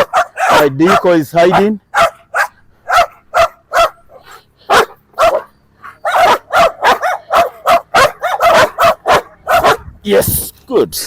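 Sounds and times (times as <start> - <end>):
dog barking: 0.0 - 9.9.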